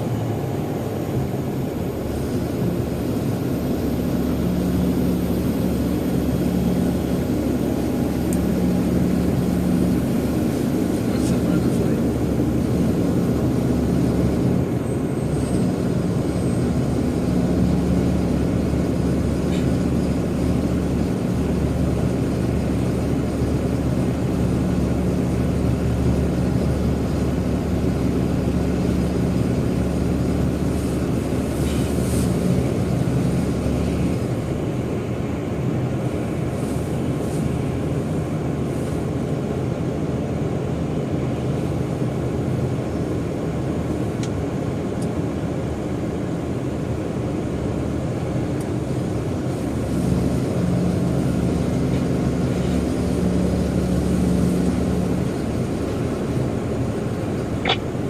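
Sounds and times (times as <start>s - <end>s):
jet airliner hum: 0.0s - 58.0s.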